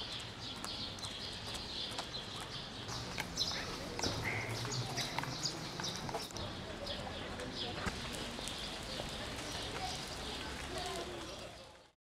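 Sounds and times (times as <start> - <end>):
footsteps on hard pavement: 0.0 - 11.8
small birds chirping: 0.0 - 12.0.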